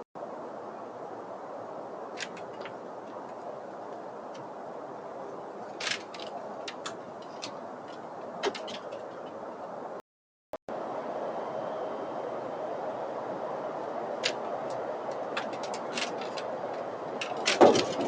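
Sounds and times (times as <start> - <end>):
steady background noise: 0.2 - 10.0, 10.7 - 18.0.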